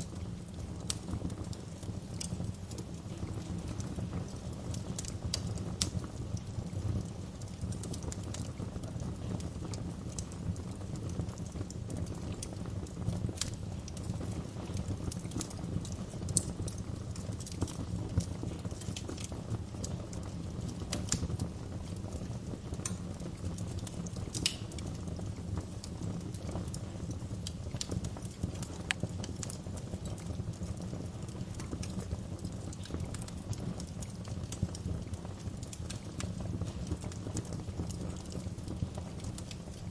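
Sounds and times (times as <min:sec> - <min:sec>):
fire pops and snaps: 0:00.0 - 0:39.9
wood fire crackling: 0:00.0 - 0:39.9.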